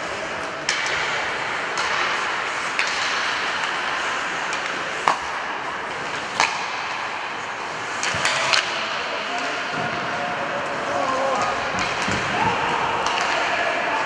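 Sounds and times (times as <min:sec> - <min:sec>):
hockey sticks and puck clacking: 0:00.0 - 0:14.0
skates scraping on ice: 0:00.0 - 0:14.0.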